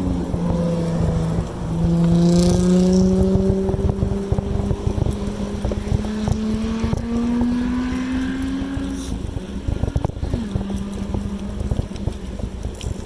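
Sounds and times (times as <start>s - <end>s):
low wind rumble: 0.0s - 13.0s
passing vehicle motor hum: 0.0s - 13.0s.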